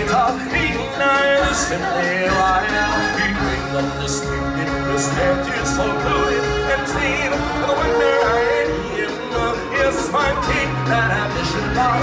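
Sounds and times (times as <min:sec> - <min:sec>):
person singing: 0:00.0 - 0:12.0
sustained musical accompaniment: 0:00.0 - 0:12.0.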